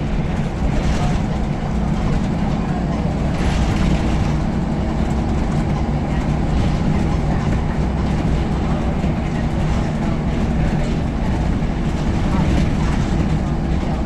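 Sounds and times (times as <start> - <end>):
diesel bus engine droning: 0.0 - 14.0.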